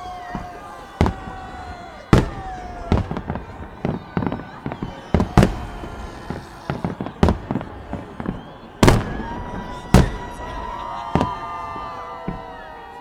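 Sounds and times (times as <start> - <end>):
firework bangs overhead: 0.0 - 13.0
high whistling fireworks: 0.0 - 13.0.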